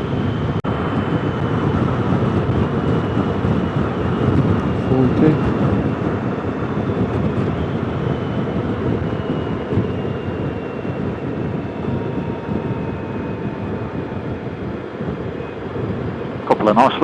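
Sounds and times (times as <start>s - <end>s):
motorcycle engine drone: 0.0s - 17.0s
wind buffeting: 0.0s - 17.0s.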